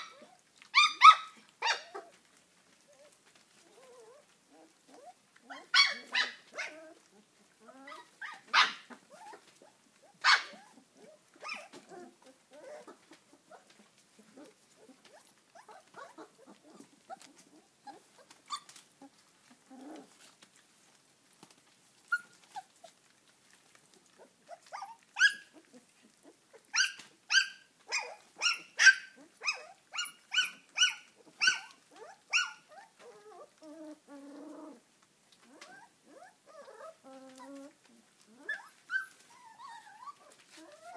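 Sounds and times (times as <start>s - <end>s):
puppies yipping: 0.0s - 2.2s, 2.9s - 20.2s, 22.0s - 23.0s, 24.0s - 34.6s, 35.5s - 40.9s.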